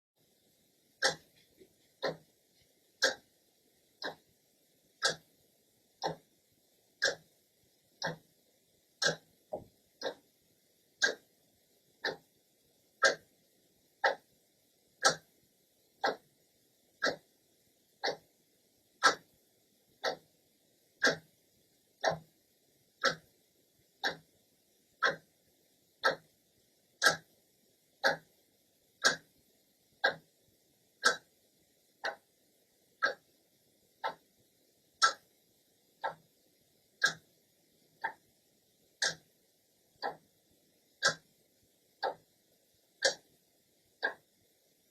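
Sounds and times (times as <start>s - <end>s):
clock ticking: 0.3s - 14.3s, 14.9s - 17.4s, 18.0s - 20.4s, 21.0s - 22.3s, 23.0s - 25.3s, 26.0s - 27.4s, 28.0s - 28.4s, 29.0s - 30.4s, 31.0s - 31.4s, 32.0s - 32.4s, 33.0s - 44.8s.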